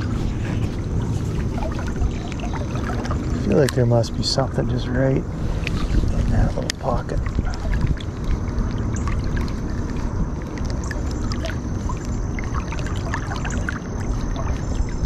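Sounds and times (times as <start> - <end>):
creek water rumbling: 0.0 - 15.0
small ticks and splashes: 0.4 - 15.0.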